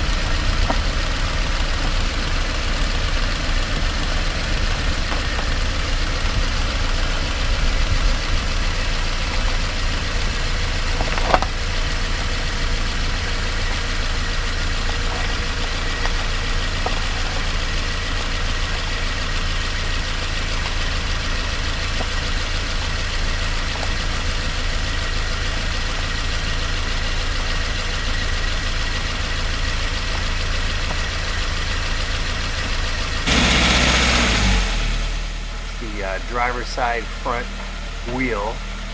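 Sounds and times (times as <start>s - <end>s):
road tyre and engine noise: 0.0s - 38.9s.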